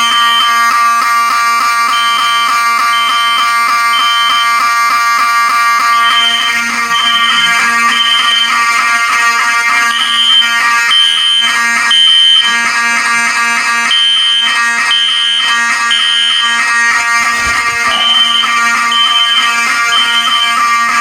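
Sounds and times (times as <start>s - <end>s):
buzzing alarm horn: 0.0s - 21.0s
high alarm beeps: 0.0s - 21.0s.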